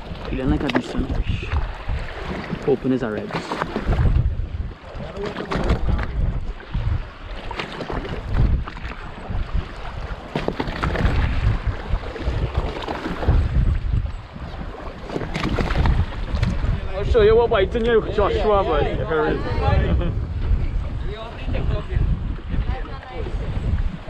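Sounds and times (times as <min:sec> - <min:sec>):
water slapping against boat: 0:00.0 - 0:24.0
wind buffeting microphone: 0:00.0 - 0:24.0.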